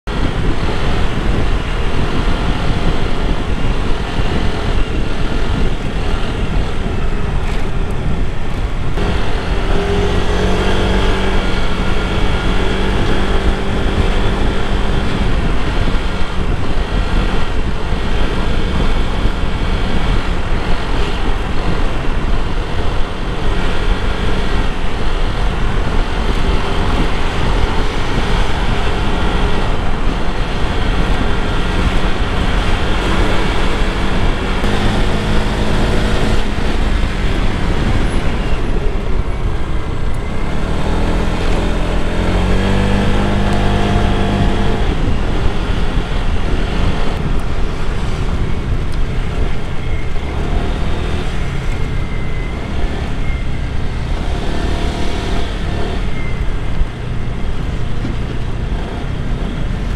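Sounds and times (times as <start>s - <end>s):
road rumble: 0.0s - 59.9s
wind on microphone: 0.0s - 59.9s
scooter engine running: 0.1s - 59.9s.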